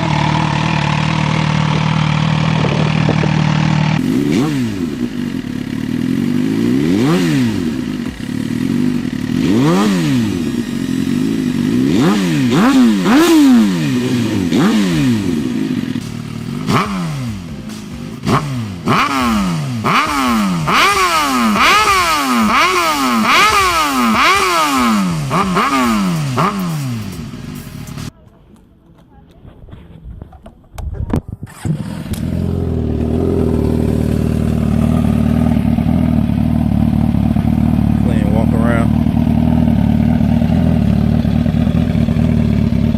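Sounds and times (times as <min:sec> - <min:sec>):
motorcycle engine throttle blips: 0:00.0 - 0:42.9.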